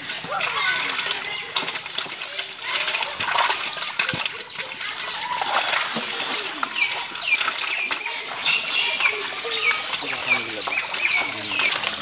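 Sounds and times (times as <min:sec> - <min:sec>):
fish splashing in water: 0:00.0 - 0:12.0.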